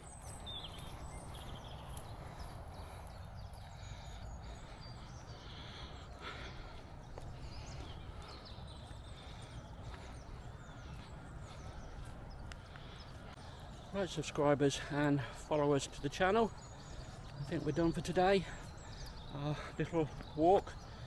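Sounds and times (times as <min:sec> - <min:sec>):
birds whistling and chirping: 0:00.0 - 0:21.0.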